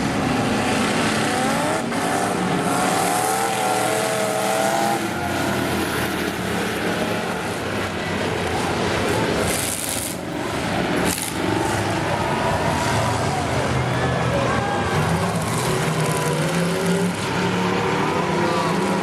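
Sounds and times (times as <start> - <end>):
race car engines at high revs: 0.0 - 19.0.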